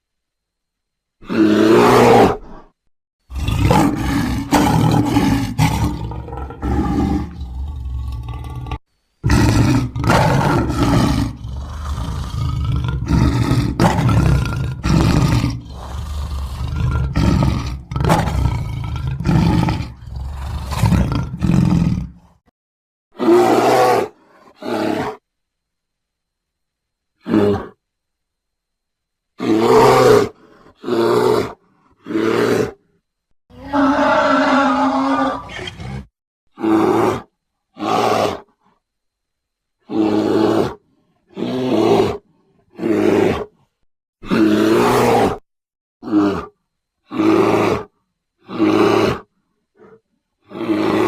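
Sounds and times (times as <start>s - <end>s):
bear roaring and growling: 1.2s - 22.5s, 23.2s - 25.2s, 27.2s - 27.8s, 29.4s - 32.8s, 33.5s - 38.6s, 39.8s - 51.0s.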